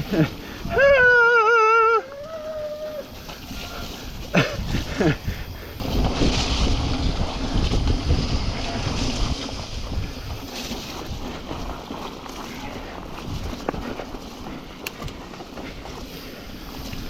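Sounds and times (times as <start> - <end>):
bike tyre noise: 0.0 - 17.0
wind buffeting microphone: 2.1 - 17.0.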